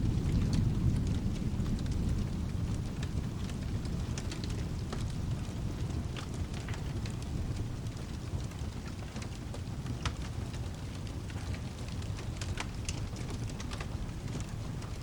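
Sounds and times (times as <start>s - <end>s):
fireplace crackling and popping: 0.0s - 15.0s
storm rumble with rain: 0.0s - 15.0s.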